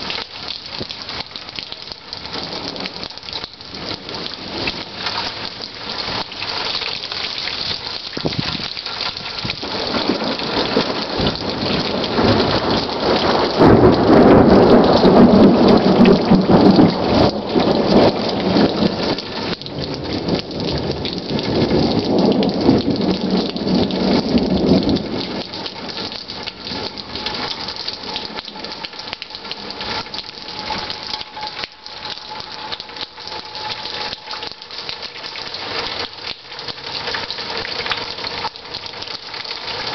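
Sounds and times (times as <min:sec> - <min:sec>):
rain hissing: 0:00.0 - 0:39.9
thunder rumbling: 0:02.1 - 0:06.2, 0:07.8 - 0:38.5.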